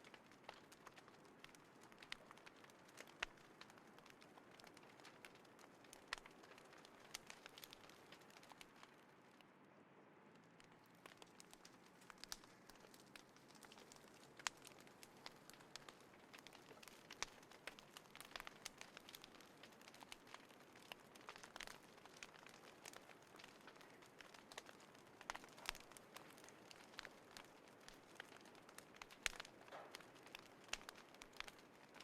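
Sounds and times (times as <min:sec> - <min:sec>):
small fire crackling: 0:00.0 - 0:32.0.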